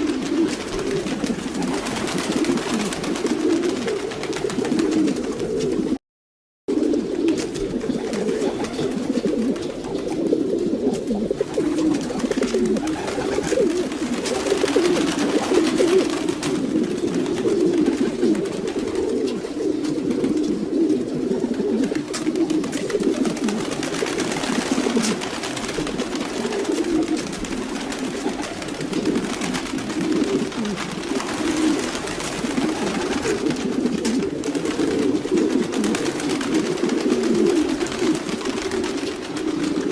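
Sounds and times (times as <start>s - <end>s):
pigeons cooing: 0.0s - 6.0s, 6.7s - 39.9s.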